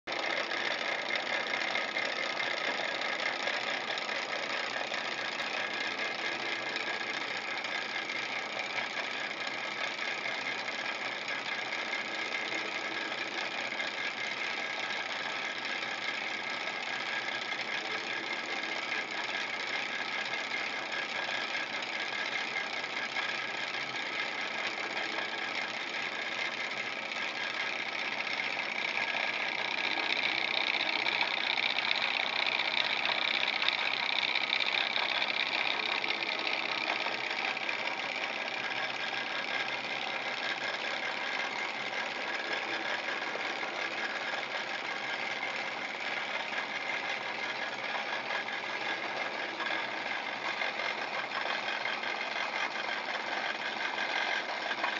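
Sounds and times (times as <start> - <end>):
engine mechanical ticking and whirring: 0.0 - 54.9.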